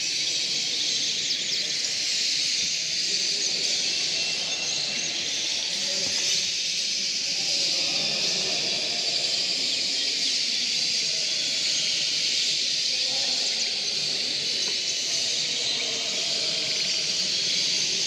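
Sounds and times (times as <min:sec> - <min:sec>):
low hubbub of voices: 0:00.0 - 0:18.0
canaries singing and chirping: 0:00.2 - 0:18.0.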